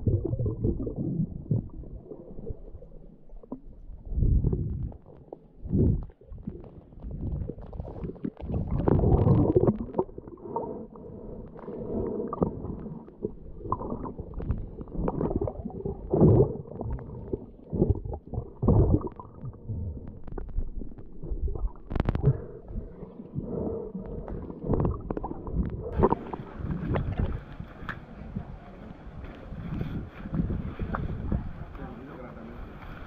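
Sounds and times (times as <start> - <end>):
underwater rumbling and gurgling: 0.0 - 33.0.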